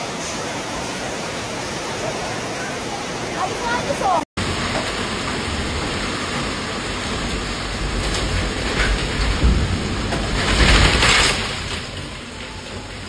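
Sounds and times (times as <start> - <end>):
heavy wind-driven rain: 0.0 - 13.0.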